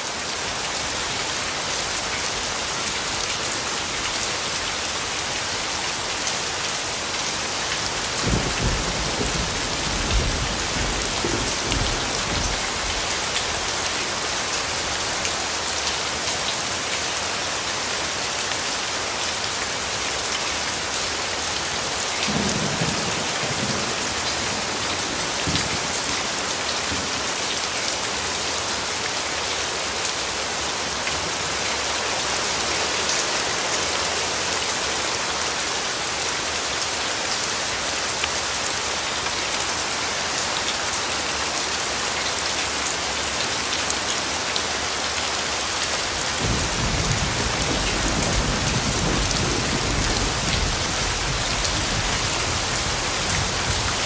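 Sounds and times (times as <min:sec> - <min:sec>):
rain falling on wet ground: 0:00.0 - 0:54.0.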